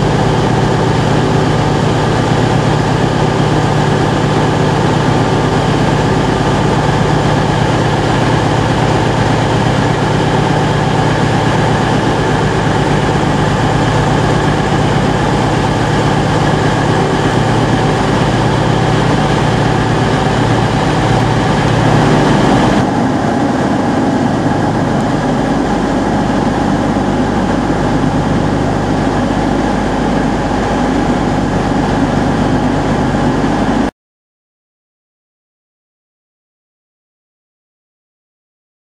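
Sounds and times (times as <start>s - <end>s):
diesel train engines running: 0.0s - 33.9s.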